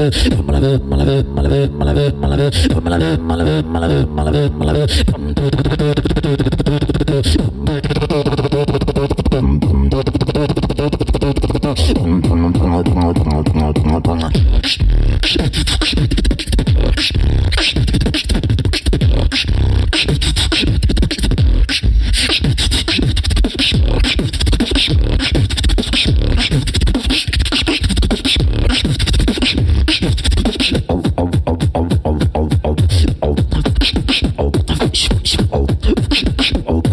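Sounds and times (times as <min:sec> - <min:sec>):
human beatboxing: 0:00.0 - 0:36.9.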